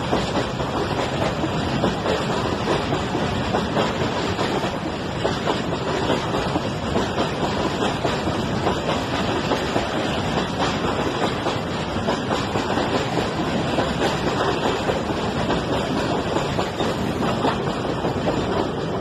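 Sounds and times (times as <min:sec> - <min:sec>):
clicks and clanks from couplings: 0:00.0 - 0:19.0
freight train wheels rolling: 0:00.0 - 0:19.0.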